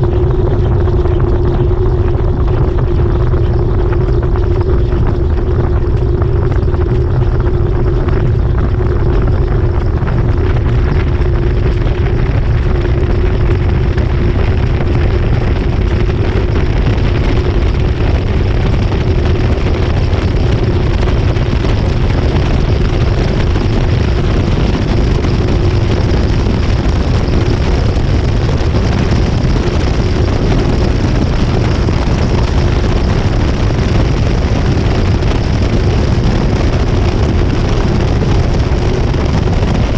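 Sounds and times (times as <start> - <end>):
motor hum: 0.0 - 39.9
washing machine spinning: 0.0 - 39.9.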